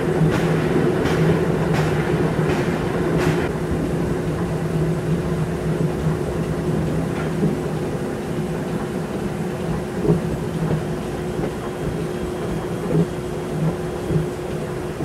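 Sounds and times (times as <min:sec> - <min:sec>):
constant hum: 0:00.0 - 0:15.0
steam locomotive rumble: 0:00.0 - 0:15.0.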